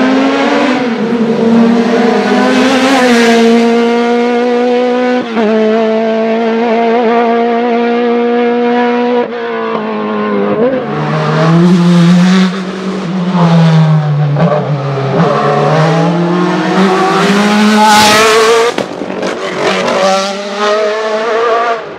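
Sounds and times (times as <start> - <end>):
race car engine at high revs: 0.0 - 21.9.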